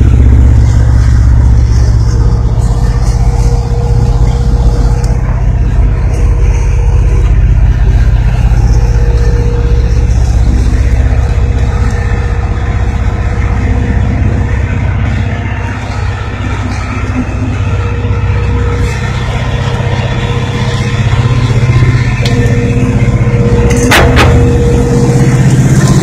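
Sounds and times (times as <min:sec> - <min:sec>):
locomotive engine droning: 0:00.0 - 0:26.0
sharp clatter: 0:00.0 - 0:26.0.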